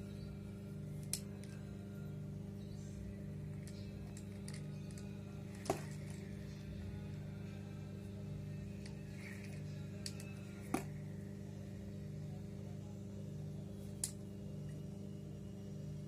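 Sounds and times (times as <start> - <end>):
low pulsing hum: 0.0 - 16.0.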